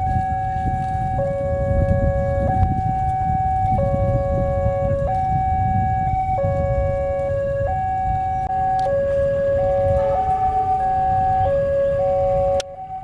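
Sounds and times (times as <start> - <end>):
level-crossing alarms: 0.0 - 13.0.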